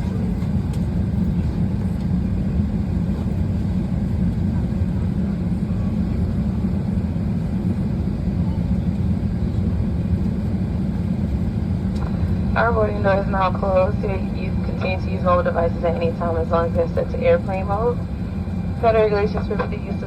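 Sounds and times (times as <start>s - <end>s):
aircraft cabin ventilation hum: 0.0s - 20.0s.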